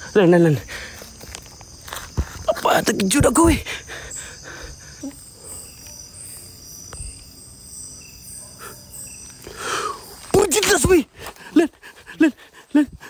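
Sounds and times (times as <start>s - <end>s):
insect chirp: 0.0s - 13.0s
insects trilling: 0.0s - 13.0s.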